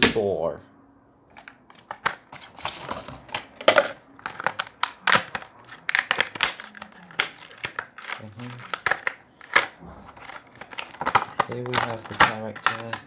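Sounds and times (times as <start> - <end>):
packaging crinkling and crackling: 1.3 - 13.0.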